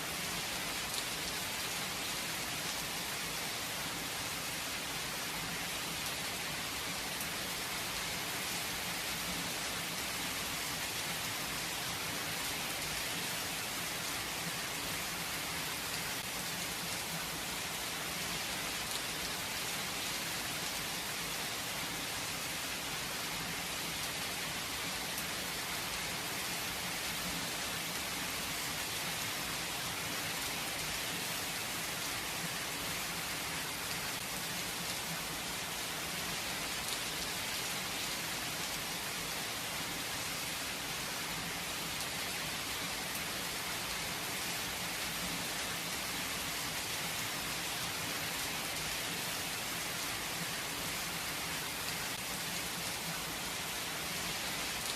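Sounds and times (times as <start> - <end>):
steady rain pattering: 0.0 - 54.9.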